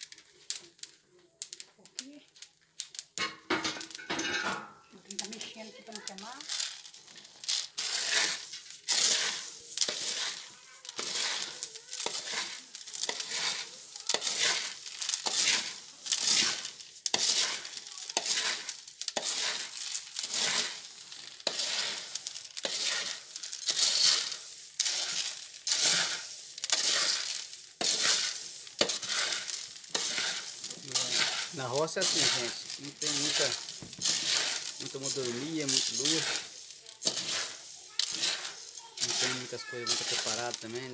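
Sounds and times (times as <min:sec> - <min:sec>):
coffee beans rattling in metal basin: 0:00.0 - 0:40.9.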